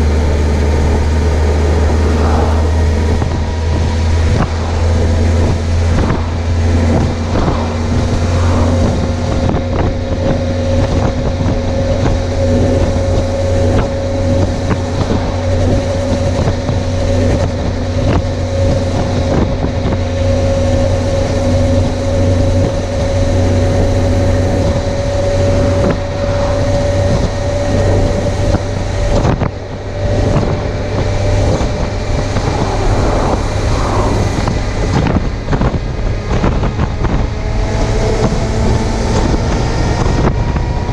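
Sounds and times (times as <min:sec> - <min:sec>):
motorcycle engine cruising: 0:00.0 - 0:40.9
wind rushing over microphone: 0:00.0 - 0:40.9.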